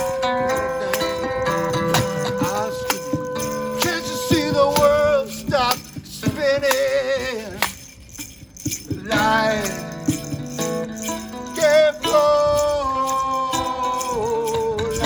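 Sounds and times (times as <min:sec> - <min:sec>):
voices singing with vibrato: 0:00.0 - 0:07.8, 0:09.0 - 0:15.0
hand percussion: 0:00.0 - 0:15.0
rattling shaker: 0:00.0 - 0:15.0.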